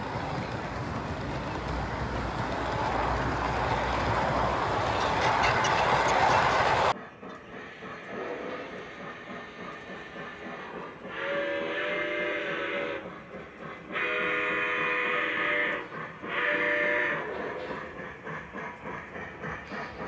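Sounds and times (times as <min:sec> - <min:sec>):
model train chuffing on track: 0:00.0 - 0:20.0.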